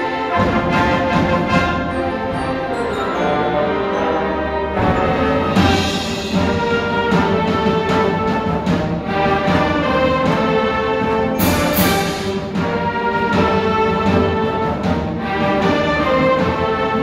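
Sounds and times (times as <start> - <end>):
brass section: 0.0 - 17.0
string section: 0.0 - 17.0.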